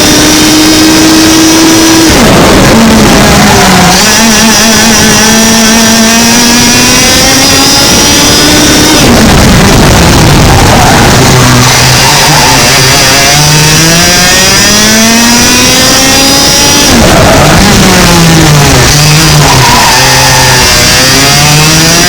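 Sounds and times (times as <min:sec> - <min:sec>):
kart engine revving: 0:00.0 - 0:22.0.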